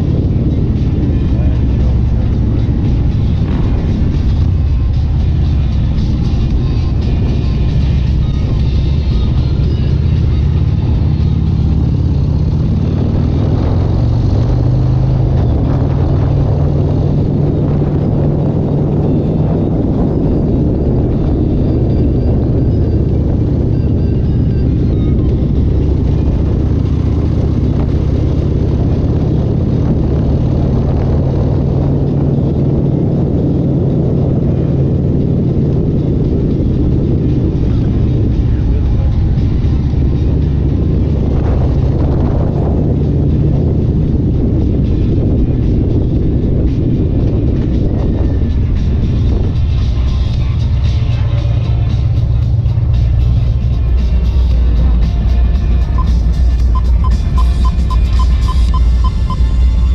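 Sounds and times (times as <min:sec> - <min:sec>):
car engine running loudly: 0:00.0 - 0:59.9.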